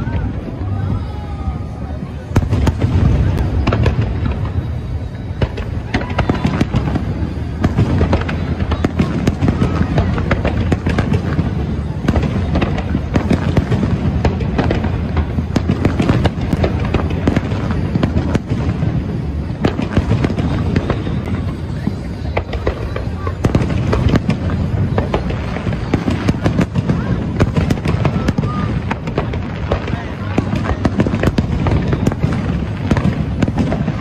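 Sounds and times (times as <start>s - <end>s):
fireworks bangs and pops: 0.0s - 34.0s.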